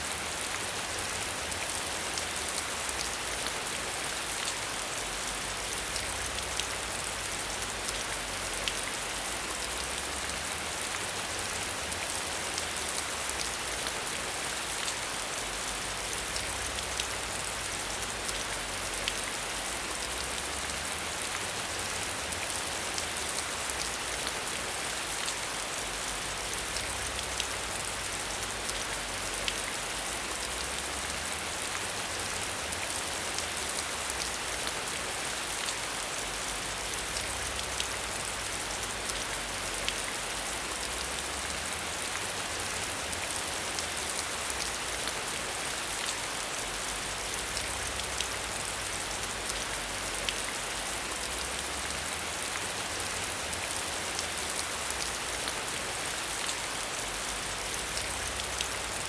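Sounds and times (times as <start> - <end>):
rain on hard surface: 0.0 - 59.0.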